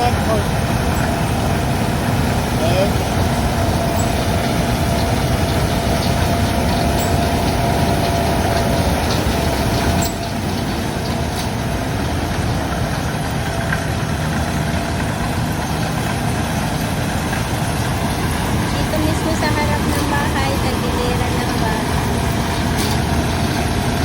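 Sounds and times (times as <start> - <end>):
diesel engine running: 0.0 - 24.0
steady whine: 0.0 - 24.0.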